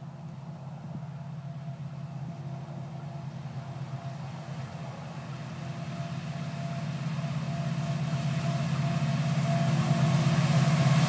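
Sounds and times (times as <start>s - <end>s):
distant diesel locomotive drone: 0.0s - 11.0s.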